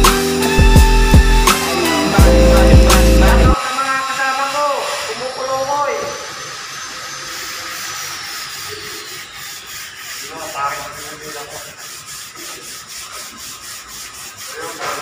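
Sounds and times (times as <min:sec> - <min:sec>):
sandpaper rasping on wall: 0:00.1 - 0:15.0.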